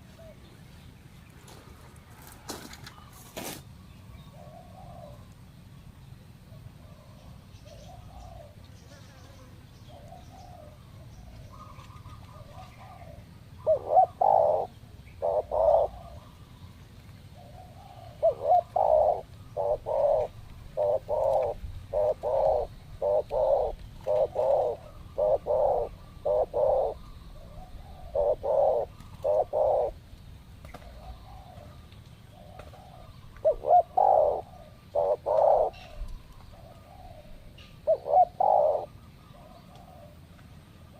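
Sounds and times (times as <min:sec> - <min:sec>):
dove cooing nearby: 0:00.0 - 0:00.8, 0:04.2 - 0:05.4, 0:06.4 - 0:40.9
faint distant dove cooing: 0:00.0 - 0:40.9.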